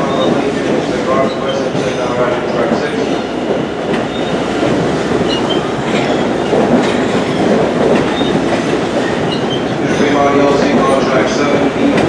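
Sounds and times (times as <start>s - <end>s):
passenger train rolling past: 0.0s - 12.0s
rail-joint clicks: 0.0s - 12.0s.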